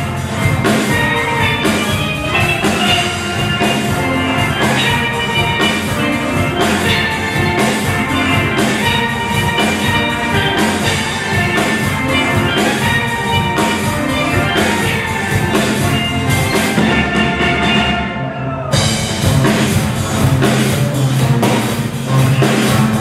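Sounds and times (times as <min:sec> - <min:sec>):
steady drum beat: 0:00.0 - 0:23.0
steel pans playing: 0:00.0 - 0:23.0.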